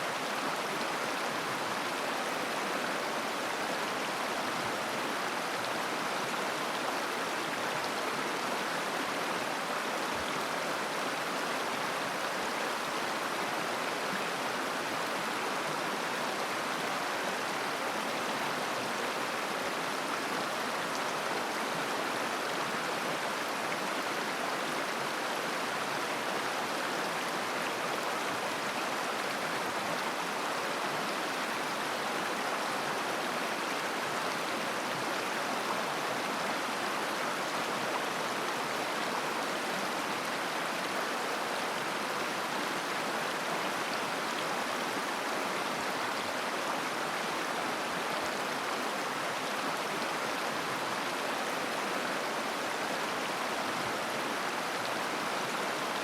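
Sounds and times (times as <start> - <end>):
river flowing and babbling: 0.0 - 56.0.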